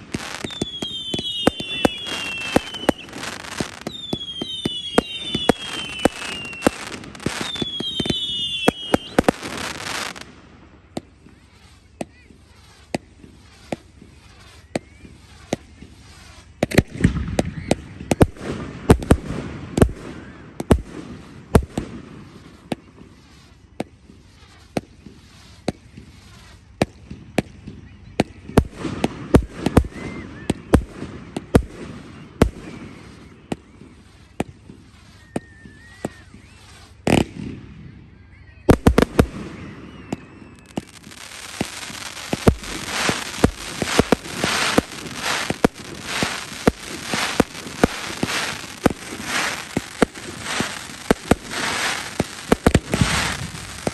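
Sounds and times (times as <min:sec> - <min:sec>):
firework bangs and pops: 0:00.0 - 0:38.0, 0:38.7 - 0:53.9
whistling fireworks: 0:00.0 - 0:53.9.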